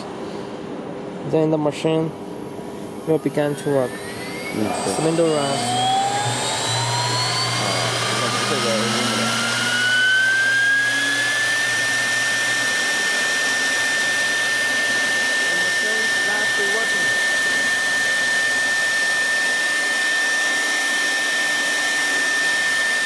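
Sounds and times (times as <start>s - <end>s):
router spindle motor whining: 3.1s - 23.0s.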